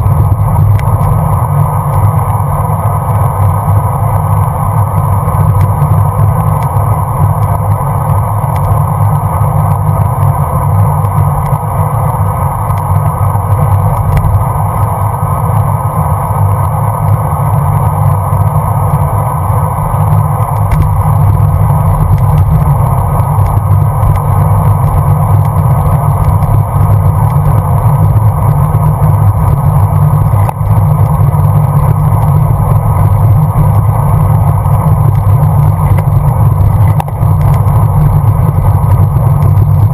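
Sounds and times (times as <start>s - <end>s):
wind rumble buffeting camera: 0.0s - 39.9s.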